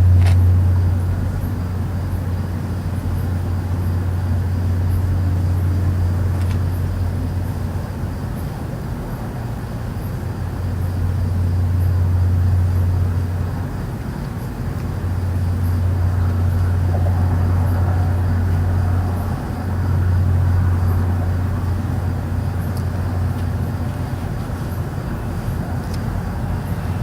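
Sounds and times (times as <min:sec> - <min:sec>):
loud low steady hum: 0:00.0 - 0:27.0.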